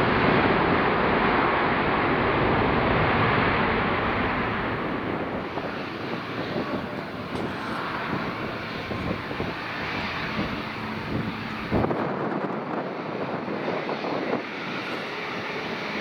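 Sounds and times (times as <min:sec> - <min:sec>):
airliner engine roar: 0:00.0 - 0:16.0.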